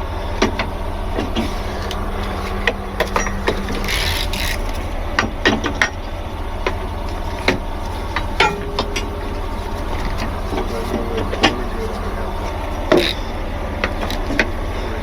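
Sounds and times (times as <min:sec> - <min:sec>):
truck engine idling: 0:00.0 - 0:15.0
rigging gear knocking and clanking: 0:00.4 - 0:15.0.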